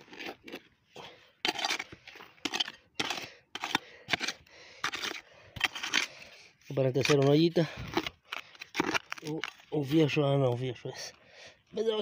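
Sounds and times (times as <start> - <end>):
shovel digging in dry soil: 0.0 - 11.1.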